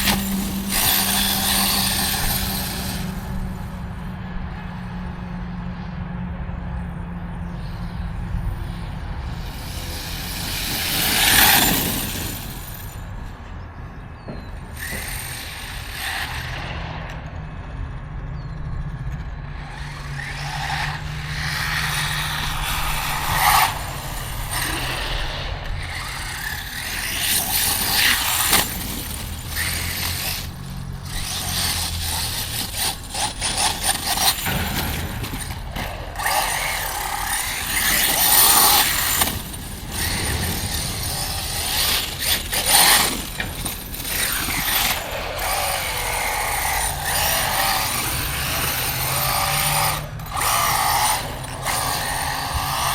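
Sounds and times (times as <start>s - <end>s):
rc truck motor whirring: 0.0s - 52.9s
tires running over ground: 0.0s - 52.9s.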